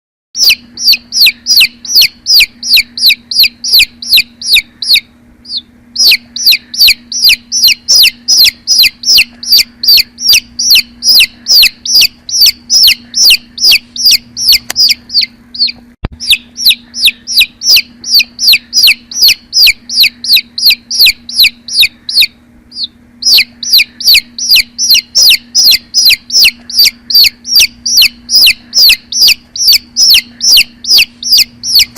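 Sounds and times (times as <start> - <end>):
chick peeping: 0.4 - 31.9
faint steady hum: 0.4 - 31.9.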